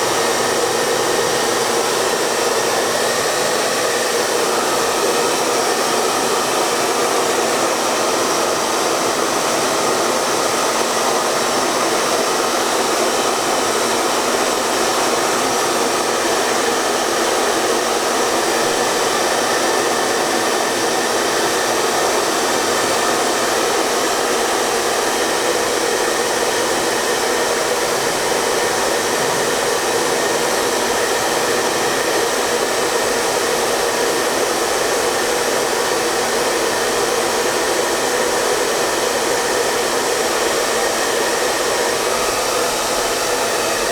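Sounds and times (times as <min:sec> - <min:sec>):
hair dryer running: 0:00.0 - 0:43.9.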